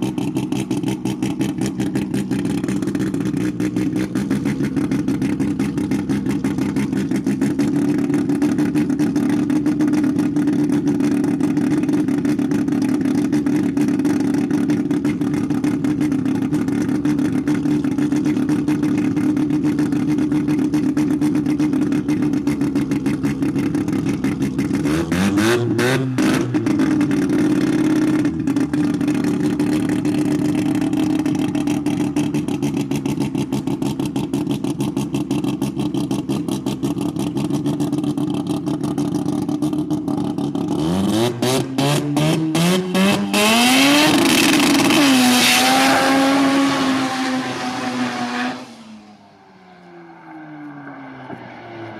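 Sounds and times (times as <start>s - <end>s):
drag racing car engine revving: 0.0s - 51.9s.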